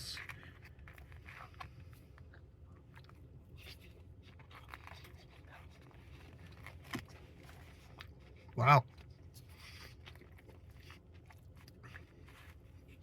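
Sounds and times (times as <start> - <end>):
person chewing food: 0.1 - 13.0.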